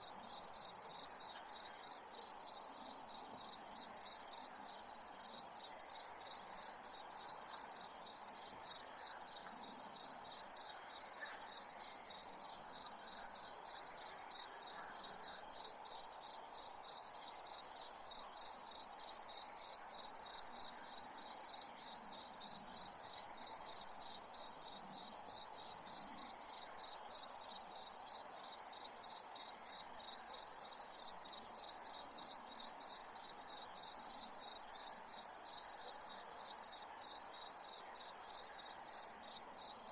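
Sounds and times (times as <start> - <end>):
crickets chirping: 0.0 - 39.9
faint night hum: 0.0 - 39.9.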